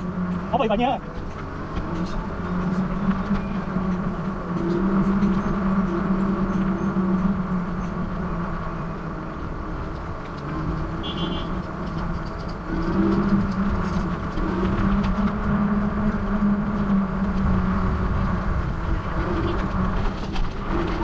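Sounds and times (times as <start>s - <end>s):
steady low hum: 0.0s - 21.0s
wind rumble on microphone: 0.0s - 21.0s.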